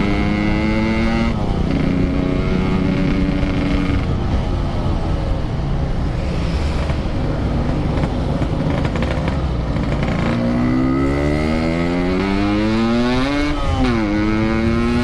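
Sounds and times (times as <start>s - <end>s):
motorcycle engine accelerating: 0.0s - 4.4s, 6.7s - 15.0s.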